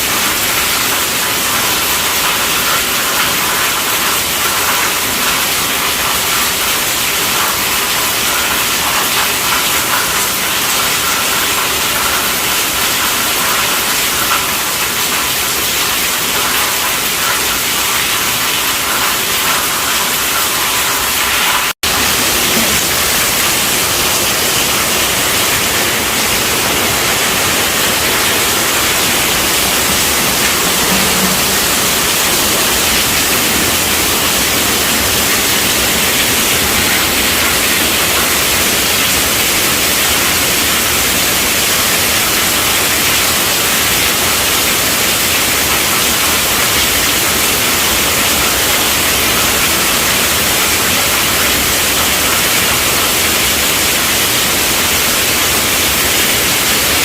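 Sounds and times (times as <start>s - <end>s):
heavy rain on tent roof: 0.0s - 57.0s.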